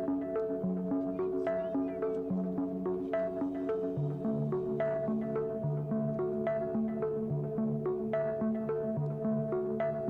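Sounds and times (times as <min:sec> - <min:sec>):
synthesizer music with plucked notes: 0:00.0 - 0:10.0.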